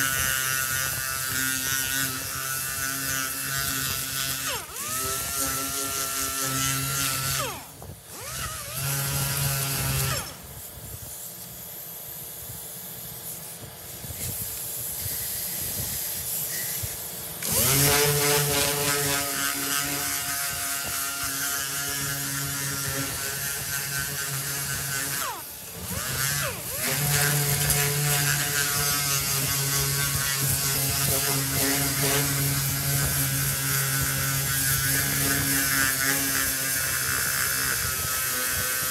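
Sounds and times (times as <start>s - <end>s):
orbital sander on sheet metal: 0.0s - 38.9s.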